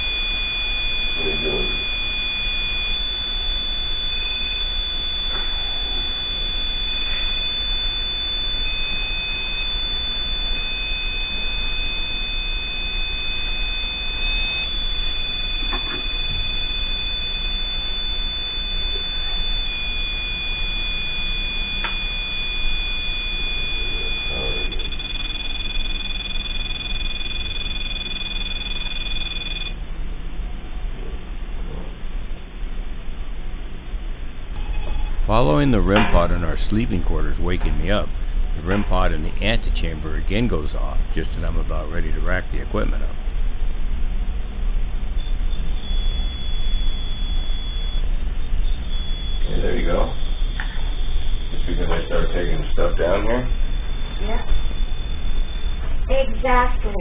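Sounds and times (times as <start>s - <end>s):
high electronic alarm tones: 0.0s - 29.8s, 34.6s - 44.4s, 45.2s - 57.0s.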